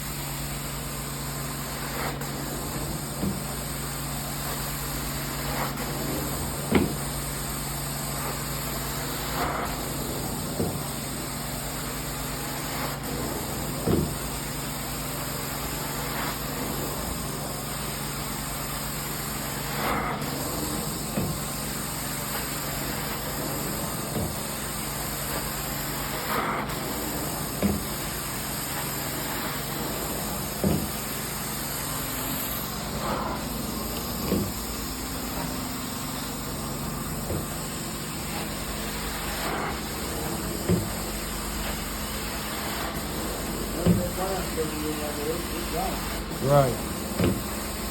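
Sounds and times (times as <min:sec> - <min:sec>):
carpet cleaning machine running: 0:00.0 - 0:47.9.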